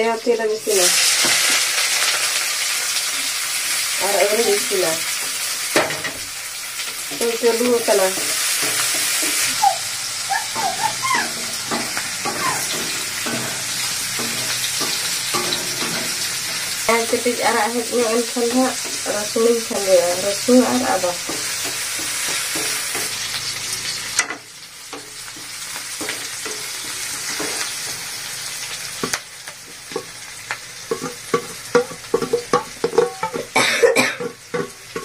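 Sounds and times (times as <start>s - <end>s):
onions sizzling in hot oil: 0.0s - 35.0s.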